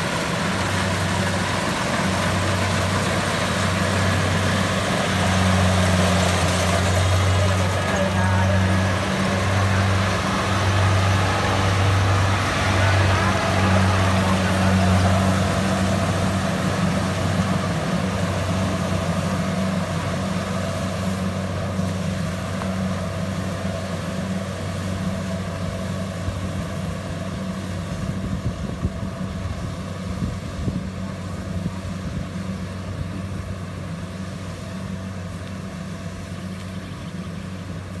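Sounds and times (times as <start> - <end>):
harvester engine drone: 0.0 - 38.0.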